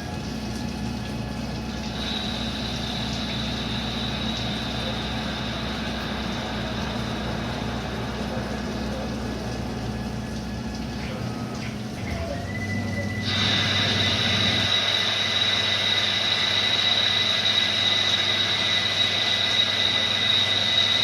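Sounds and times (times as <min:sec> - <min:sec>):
high steady whine: 0:00.0 - 0:21.0
lathe machine hum: 0:00.0 - 0:21.0.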